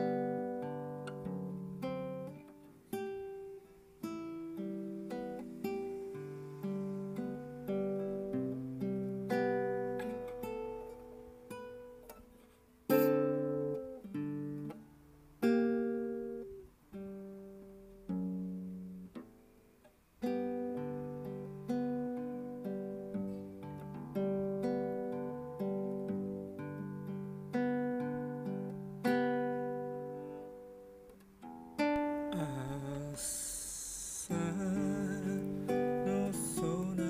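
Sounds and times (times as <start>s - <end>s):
solo acoustic guitar: 0.0s - 37.0s.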